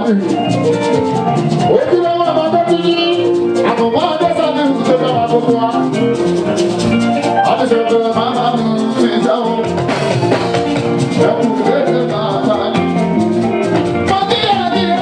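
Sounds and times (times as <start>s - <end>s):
dense percussion: 0.0s - 15.0s
held melodic notes: 0.0s - 15.0s
person singing: 1.6s - 15.0s.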